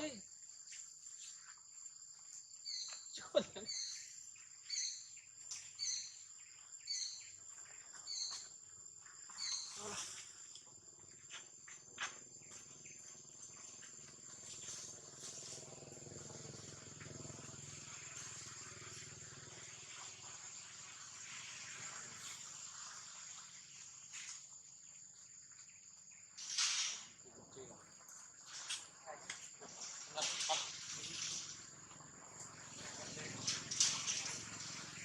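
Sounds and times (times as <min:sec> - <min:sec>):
insects droning: 0:00.0 - 0:35.0
outdoor forest ambience: 0:00.0 - 0:35.0.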